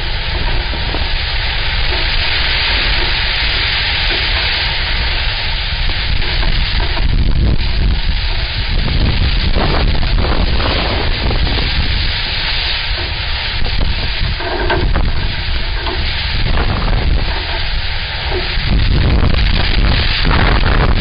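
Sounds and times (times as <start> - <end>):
fire crackling: 0.0 - 21.0
wind rumbling on the microphone: 0.0 - 21.0.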